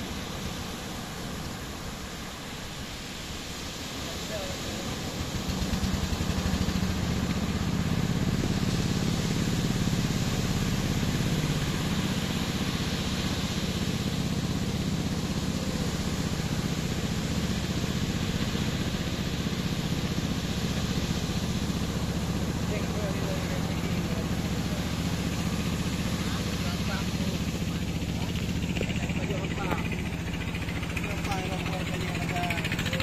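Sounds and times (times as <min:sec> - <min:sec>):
boat engine throbbing: 0:00.0 - 0:33.0.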